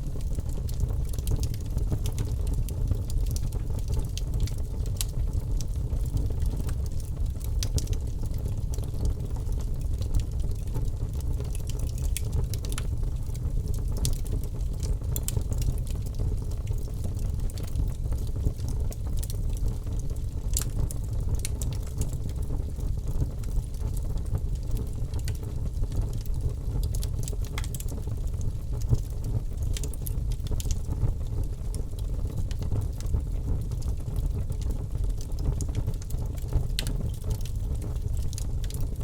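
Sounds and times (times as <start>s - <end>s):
fire flame rumble: 0.0s - 39.0s
wood crackling and popping: 0.1s - 39.0s.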